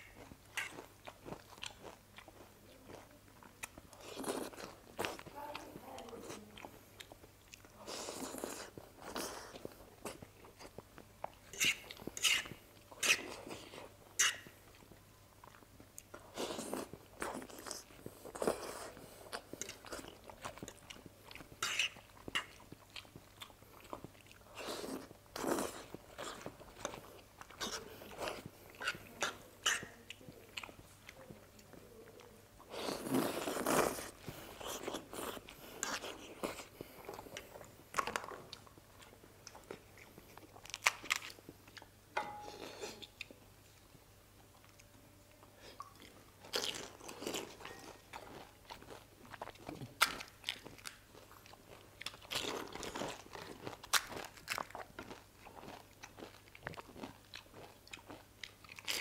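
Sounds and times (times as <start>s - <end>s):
wet chewing with mouth clicks: 0.0s - 59.0s.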